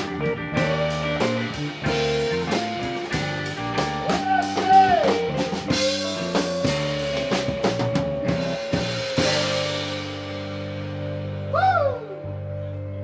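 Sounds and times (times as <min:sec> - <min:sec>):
band playing reggae-rock: 0:00.0 - 0:12.9
guitar bending notes: 0:00.0 - 0:13.0.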